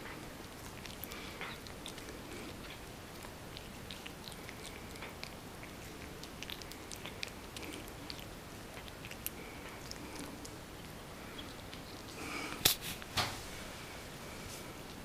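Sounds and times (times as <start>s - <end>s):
cat chewing melon: 0.0s - 13.1s.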